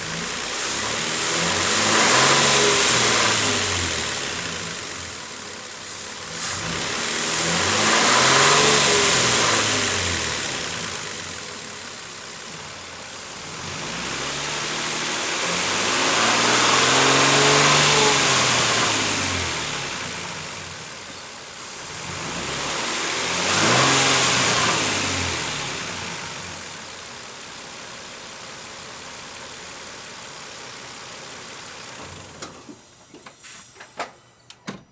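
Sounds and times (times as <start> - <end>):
engine revving and idling: 0.0 - 33.0.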